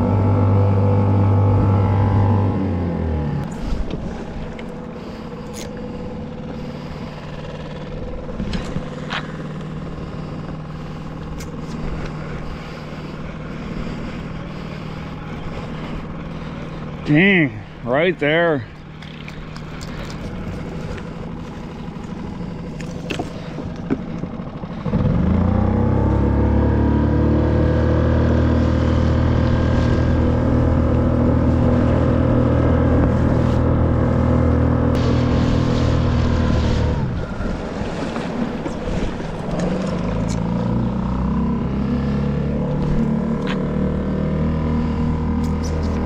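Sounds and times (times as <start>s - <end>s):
small outboard motor running: 0.0s - 46.0s.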